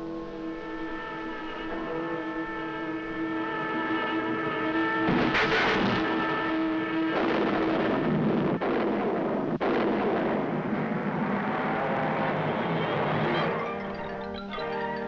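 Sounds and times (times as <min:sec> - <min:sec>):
cartoon rocket car roar: 0:00.0 - 0:15.0.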